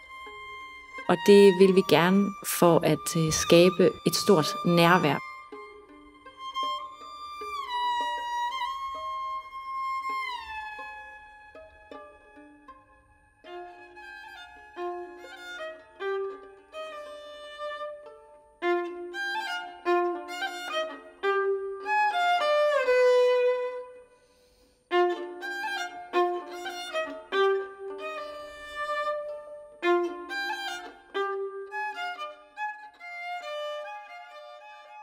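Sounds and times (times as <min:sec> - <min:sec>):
solo violin melody: 0:00.0 - 0:35.0.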